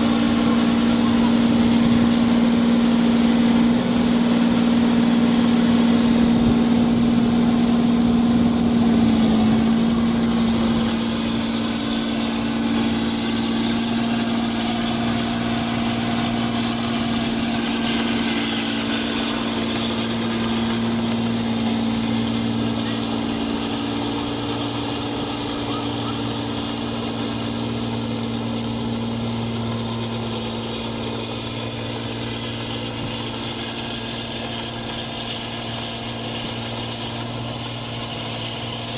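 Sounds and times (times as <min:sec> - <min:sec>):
harvester engine droning: 0:00.0 - 0:38.9.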